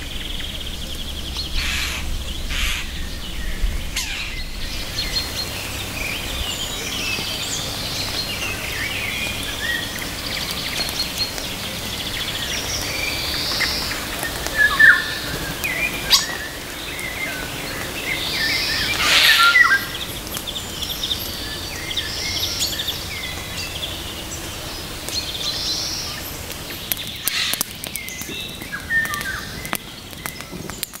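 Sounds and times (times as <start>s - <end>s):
birds singing and calling: 0.0s - 31.0s
steady background hiss: 0.0s - 31.0s.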